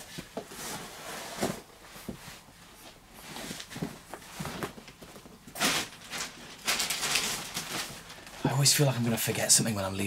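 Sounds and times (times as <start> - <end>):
bag and clothing rustling: 0.0 - 8.5.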